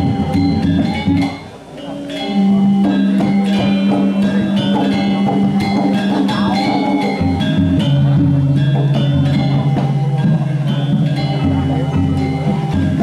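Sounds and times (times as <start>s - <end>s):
bronze metallophones ringing: 0.0s - 13.0s
drums: 0.0s - 13.0s
long held low tone: 0.0s - 13.0s.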